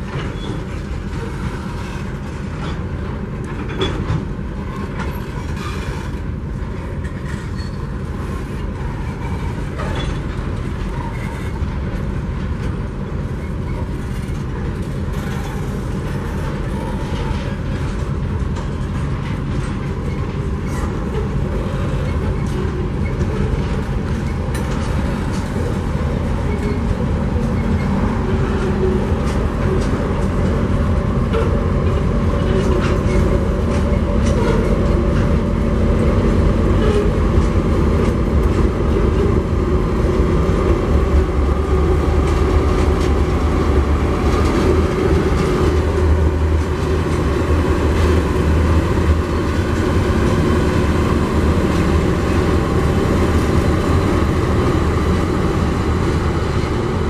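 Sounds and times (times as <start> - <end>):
clicks and clacks at rail joints: 0.0 - 57.0
train wheels rumbling on rails: 0.0 - 57.0.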